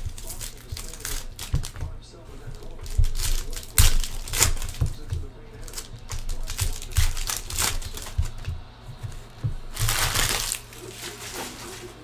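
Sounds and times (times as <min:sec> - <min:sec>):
card packs crinkling: 0:00.0 - 0:12.0
wrapper ripping: 0:00.0 - 0:12.0.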